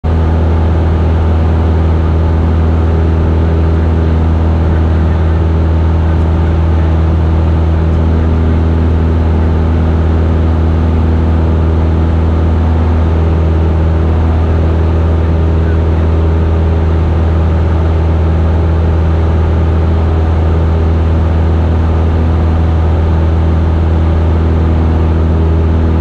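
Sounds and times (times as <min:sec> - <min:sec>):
propeller plane engine humming: 0:00.0 - 0:26.0.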